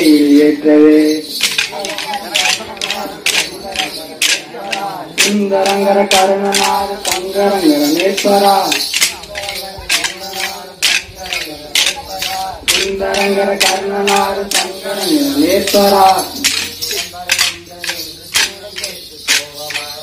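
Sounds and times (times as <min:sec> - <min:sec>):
wooden sticks clacking together: 0:01.3 - 0:20.0.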